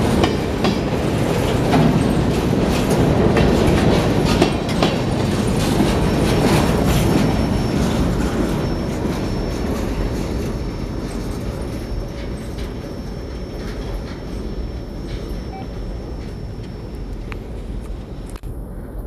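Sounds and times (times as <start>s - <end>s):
wheels clacking over rails: 0.0s - 18.2s
freight train rumbling: 0.0s - 19.0s.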